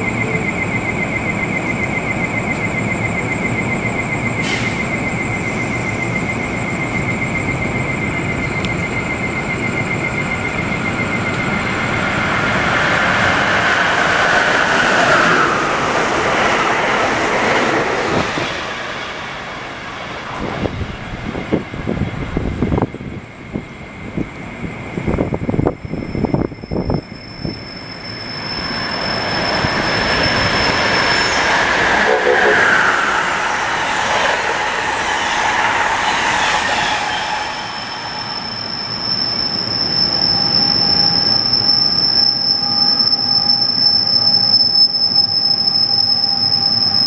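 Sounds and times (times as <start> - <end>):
electric train passing at speed: 0.0 - 47.0
high pulsing squeal: 0.0 - 47.0.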